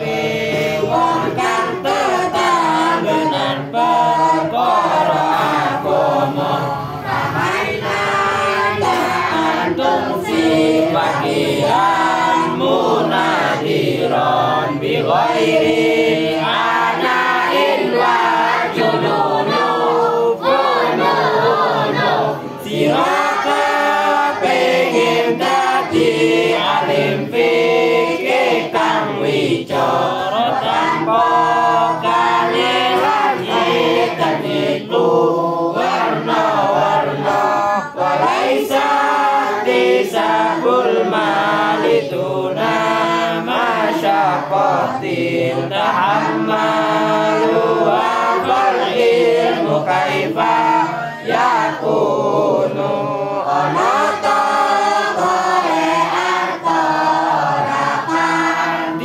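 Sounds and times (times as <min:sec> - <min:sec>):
girls chanting in unison: 0:00.0 - 0:59.0.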